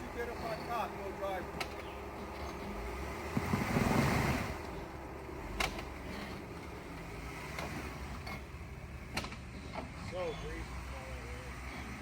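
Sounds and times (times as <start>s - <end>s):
engine working under load: 0.0s - 12.0s.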